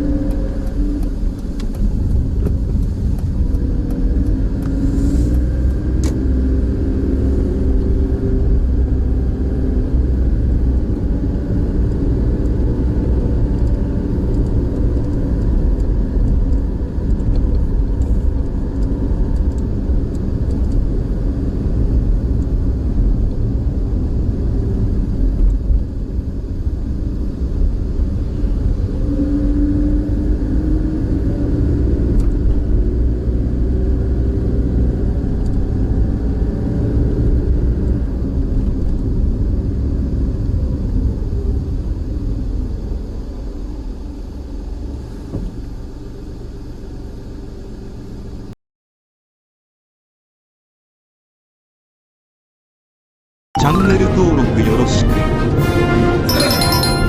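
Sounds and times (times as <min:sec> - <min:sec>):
car engine and tyres rumbling: 0:00.0 - 0:48.6.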